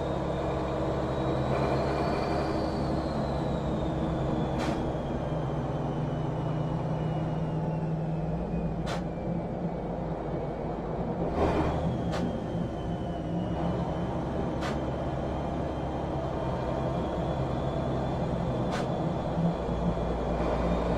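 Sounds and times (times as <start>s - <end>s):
diesel engine under load: 0.0s - 20.9s.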